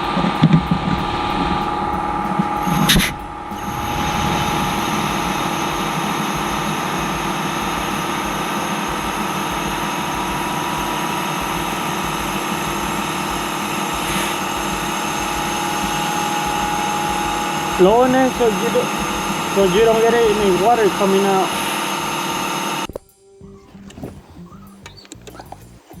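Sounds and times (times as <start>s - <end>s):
machine humming: 0.0s - 23.6s.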